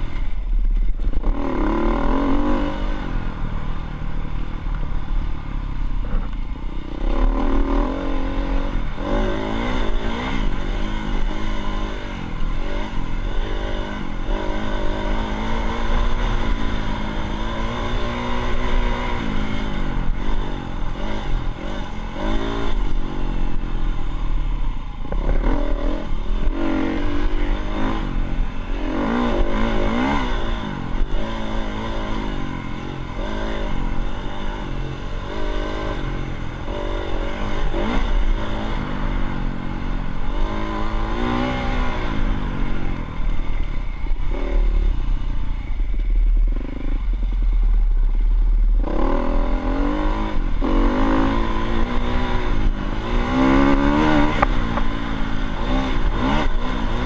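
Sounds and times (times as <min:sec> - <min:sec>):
dirt bike engine revving: 0:00.9 - 0:05.3, 0:06.0 - 0:57.0.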